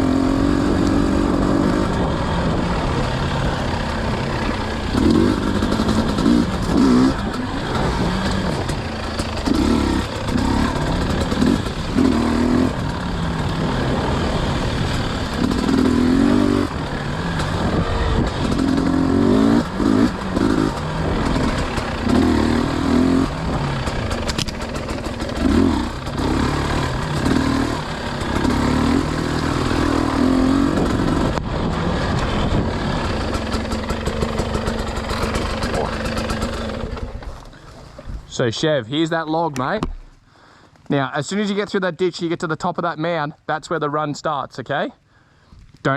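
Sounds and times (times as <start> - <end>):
dirt bike engine revving: 0.0 - 37.3.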